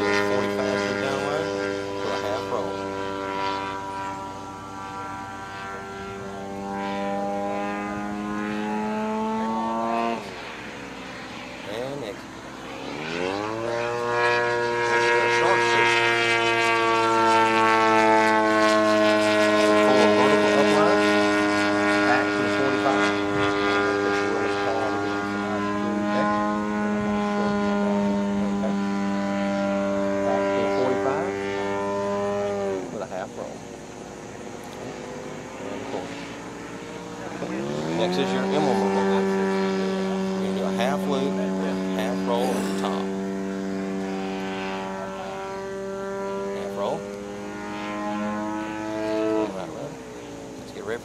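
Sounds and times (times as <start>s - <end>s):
model airplane engine: 0.0s - 51.0s.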